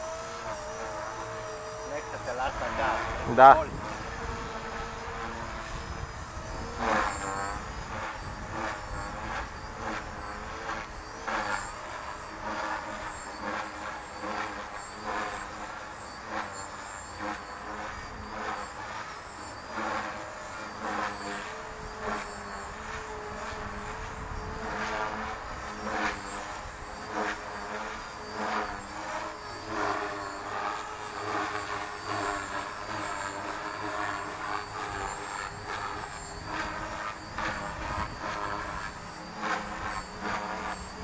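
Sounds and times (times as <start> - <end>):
rc helicopter motor whine: 0.0 - 41.0.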